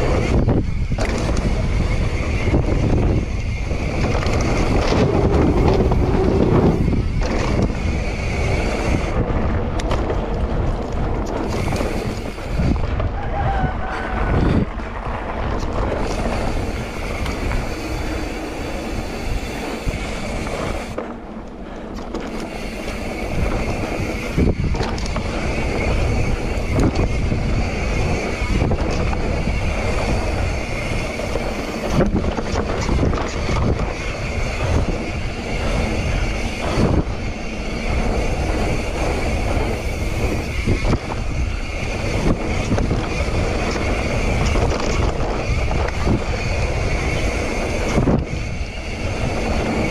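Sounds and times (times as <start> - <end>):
bike rattling and knocking: 0.0 - 49.9
wind buffeting microphone: 0.0 - 49.9.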